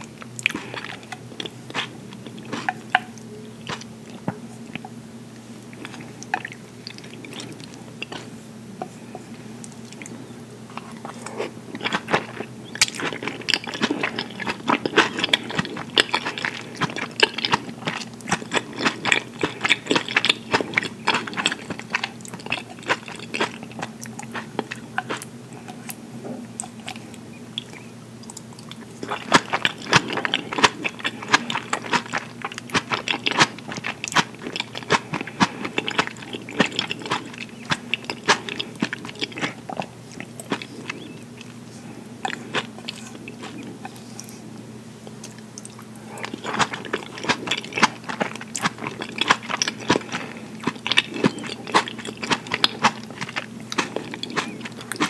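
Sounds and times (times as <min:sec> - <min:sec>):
close-miked chewing: 0:00.0 - 0:55.0.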